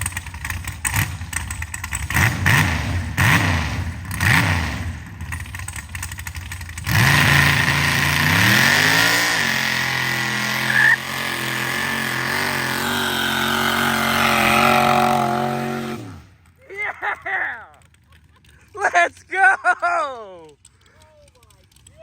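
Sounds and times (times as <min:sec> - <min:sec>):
truck engine revving: 0:00.0 - 0:19.3.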